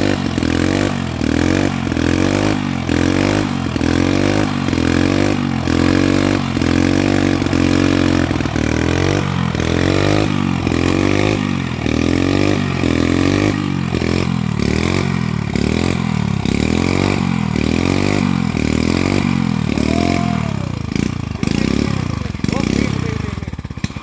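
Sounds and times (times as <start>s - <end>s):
small petrol engine revving: 0.0s - 24.0s.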